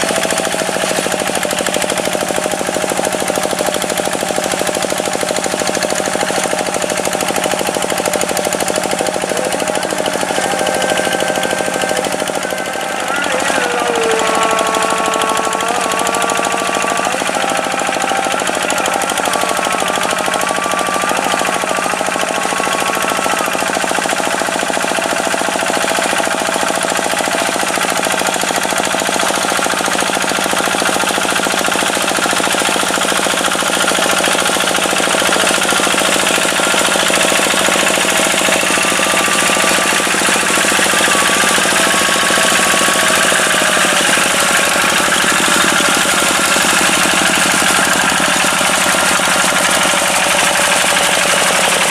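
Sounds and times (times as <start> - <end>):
tractor diesel engine clattering: 0.0 - 51.9.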